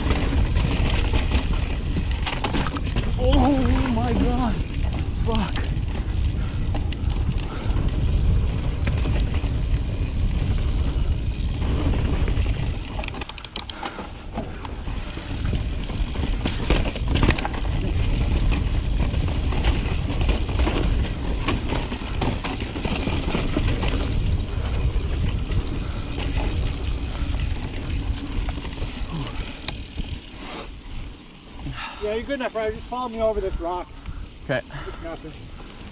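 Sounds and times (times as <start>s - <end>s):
wind buffeting microphone: 0.0s - 13.4s, 14.1s - 31.8s
bike rattling and knocking: 0.0s - 30.4s
tyres on dirt and rock: 0.0s - 33.7s.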